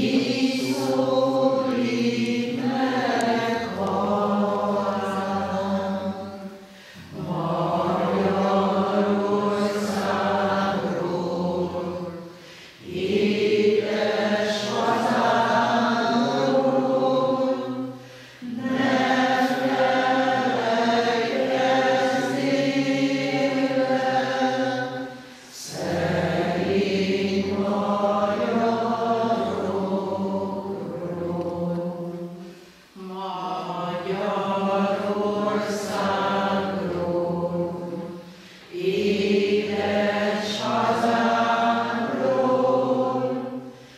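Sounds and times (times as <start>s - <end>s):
congregation singing a hymn: 0.0s - 43.9s.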